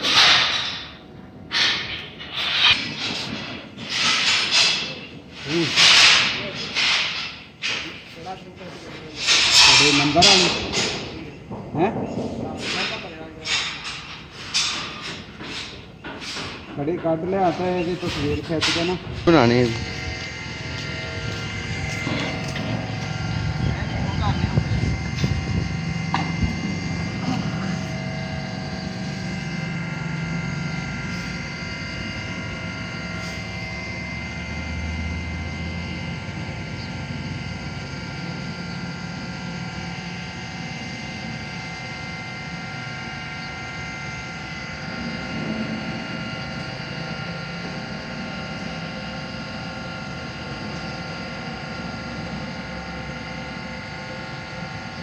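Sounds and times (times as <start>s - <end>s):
motor droning with high whine: 0.0s - 55.0s.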